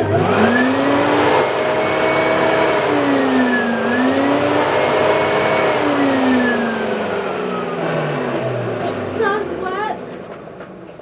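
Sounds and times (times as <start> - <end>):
vacuum cleaner motor whining: 0.0 - 11.0.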